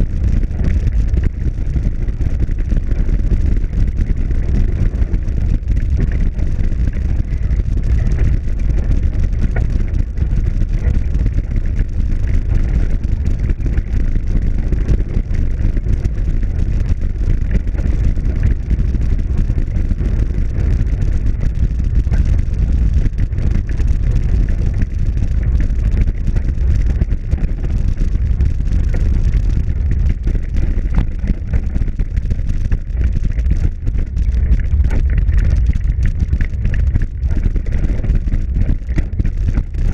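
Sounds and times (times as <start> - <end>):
bicycle tyres rumbling on gravel: 0.0 - 39.9
wind on microphone: 0.0 - 39.9.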